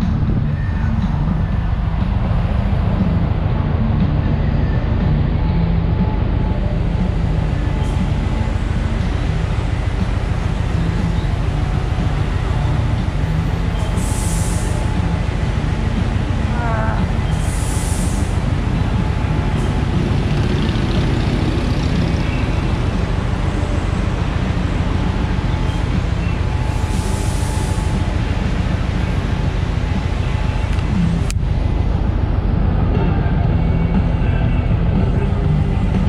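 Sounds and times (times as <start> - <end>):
motorcycle engine idling: 0.0 - 36.0.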